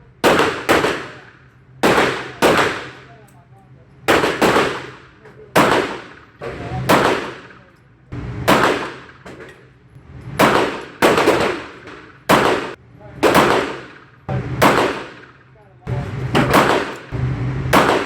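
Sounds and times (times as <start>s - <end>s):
pistol shots echoing: 0.2s - 3.2s, 4.1s - 7.8s, 8.5s - 9.5s, 10.4s - 15.6s, 16.4s - 18.0s.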